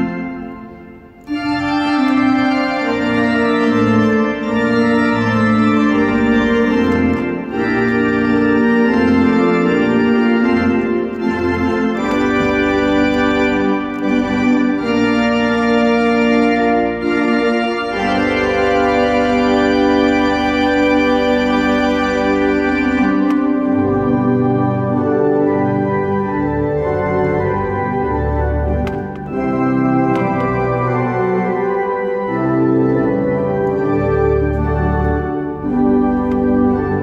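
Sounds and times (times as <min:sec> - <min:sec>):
organ pedal bass line: 0:00.0 - 0:37.0
organ playing sustained chords: 0:00.0 - 0:37.0.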